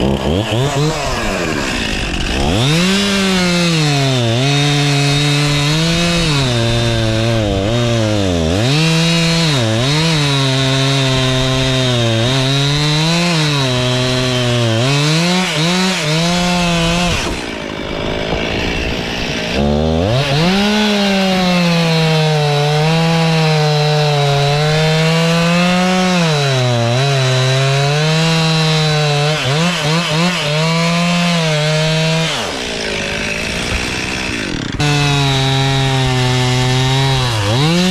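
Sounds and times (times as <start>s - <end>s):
chainsaw cutting wood: 0.0s - 37.9s
chainsaw idling: 0.0s - 37.9s.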